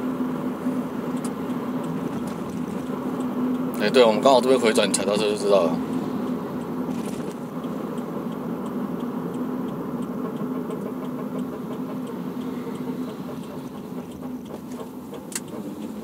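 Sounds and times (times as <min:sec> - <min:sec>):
brake hum: 0:00.0 - 0:16.0
car engine running: 0:00.0 - 0:16.0.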